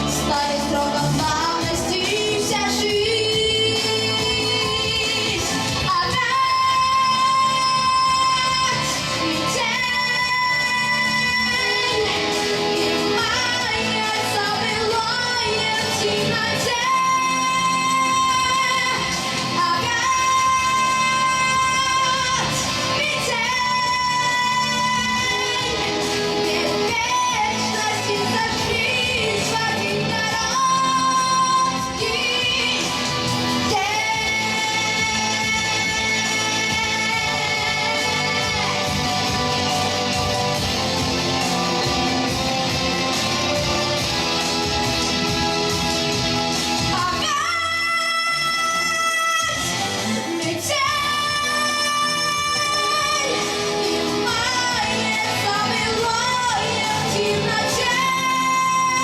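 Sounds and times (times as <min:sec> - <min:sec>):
backing track: 0:00.0 - 0:59.0
boy singing a pop song: 0:00.0 - 0:59.0.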